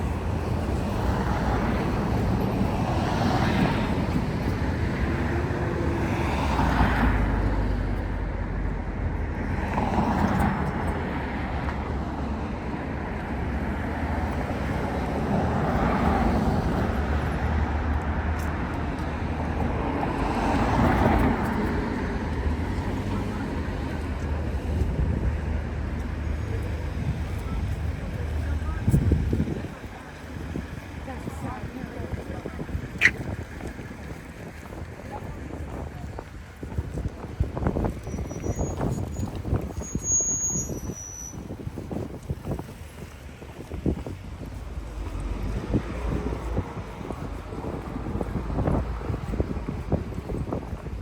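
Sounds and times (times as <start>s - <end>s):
low traffic rumble: 0.0s - 51.0s
vehicles passing: 0.0s - 51.0s.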